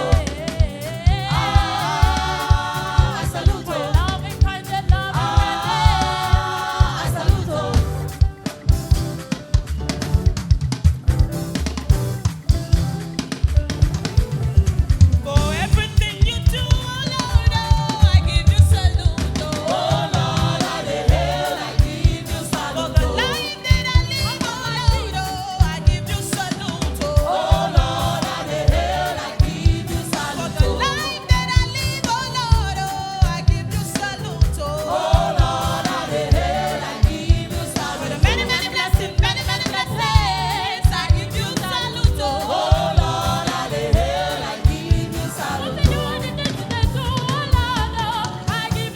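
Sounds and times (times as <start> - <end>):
choir singing gospel: 0.0 - 10.3, 14.4 - 48.9
live band with drums and bass: 0.0 - 48.9.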